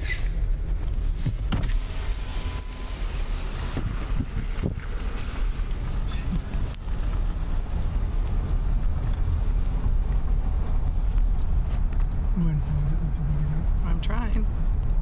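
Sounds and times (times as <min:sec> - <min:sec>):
car engine and tyres on wet road: 0:00.0 - 0:15.0.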